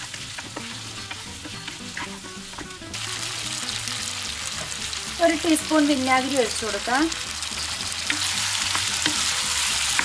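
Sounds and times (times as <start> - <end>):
meat sizzling in a pan: 0.0 - 10.0.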